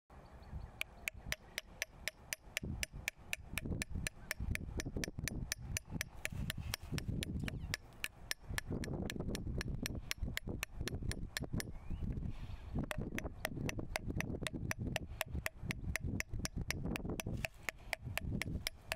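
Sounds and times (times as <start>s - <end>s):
wrench tapping on metal flange: 1.0s - 11.7s, 12.9s - 18.9s.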